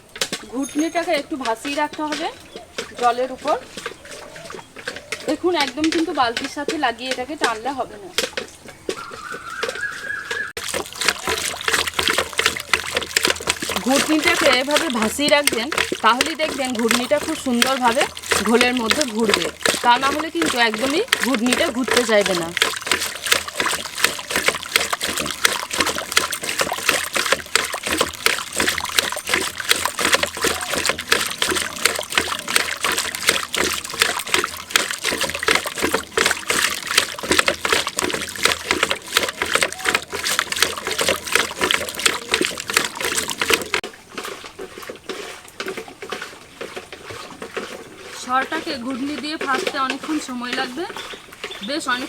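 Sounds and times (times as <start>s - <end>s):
cream sloshing and splashing: 9.3s - 52.0s.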